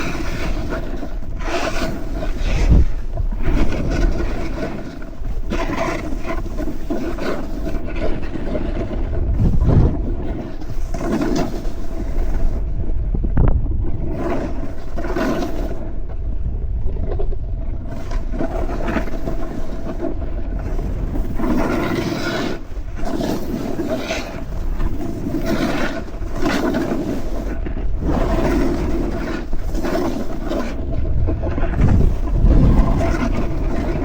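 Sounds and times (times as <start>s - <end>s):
snowboard edge scraping snow: 0.0s - 12.6s, 14.0s - 15.8s, 17.9s - 34.0s
wind rumble on microphone: 0.0s - 34.0s.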